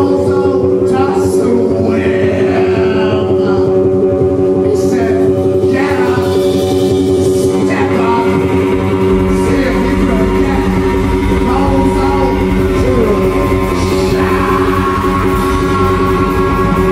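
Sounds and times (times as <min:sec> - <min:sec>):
man singing: 0:00.0 - 0:16.9.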